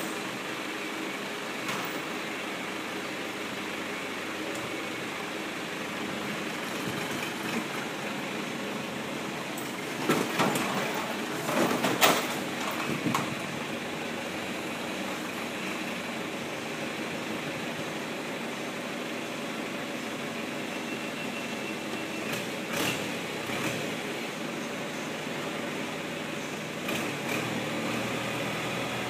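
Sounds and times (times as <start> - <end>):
tractor engine idling: 0.0 - 26.9.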